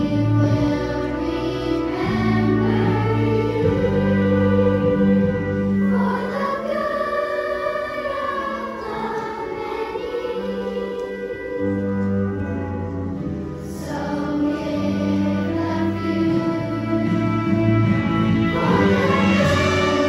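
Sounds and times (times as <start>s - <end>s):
children's choir singing: 0.0s - 20.0s
low instrumental accompaniment: 0.0s - 20.0s.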